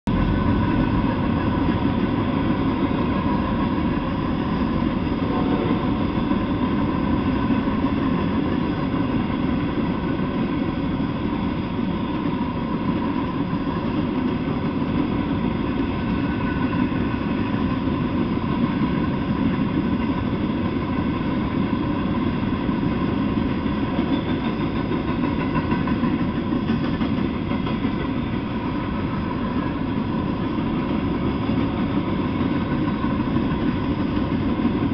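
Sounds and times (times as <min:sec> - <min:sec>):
steel wheels on track: 0:00.1 - 0:34.9.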